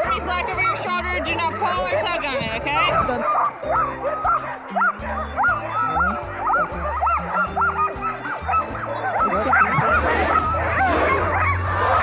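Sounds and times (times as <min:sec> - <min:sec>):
huskies yipping and barking: 0:00.0 - 0:12.0
music with low held notes: 0:00.0 - 0:12.0.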